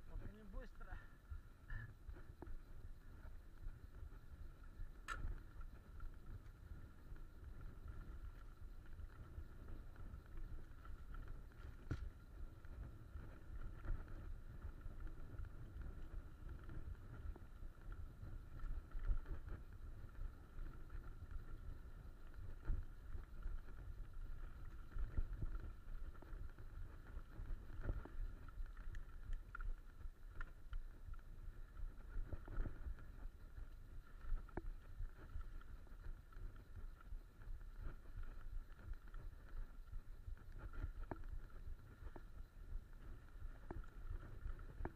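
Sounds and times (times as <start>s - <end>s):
wind and tyre rumble: 0.0s - 44.9s.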